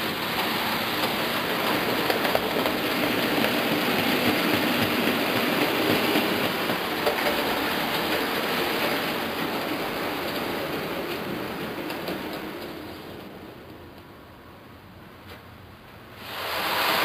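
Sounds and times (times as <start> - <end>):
model train running on track: 0.0 - 14.4, 16.2 - 17.0.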